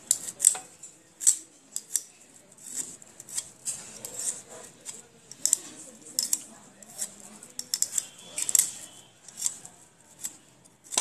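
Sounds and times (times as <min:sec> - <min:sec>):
vegetable peeler scraping radish: 0:00.0 - 0:00.6, 0:01.2 - 0:11.0.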